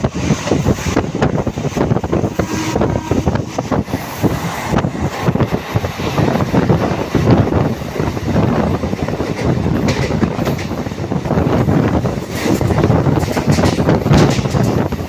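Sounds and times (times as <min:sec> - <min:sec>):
train wheels clattering: 0:00.0 - 0:15.0
wind buffeting microphone: 0:00.0 - 0:15.0.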